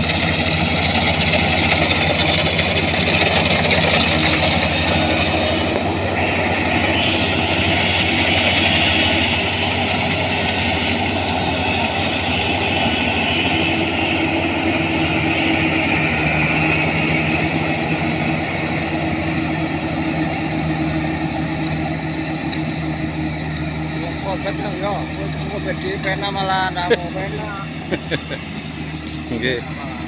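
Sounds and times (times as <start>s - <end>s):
combine harvester diesel engine: 0.0s - 30.0s
steady tone: 0.0s - 30.0s.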